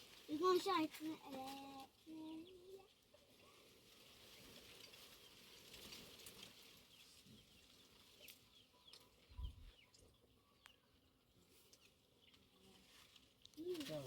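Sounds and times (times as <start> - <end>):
faint bird chirping: 0.4 - 14.0.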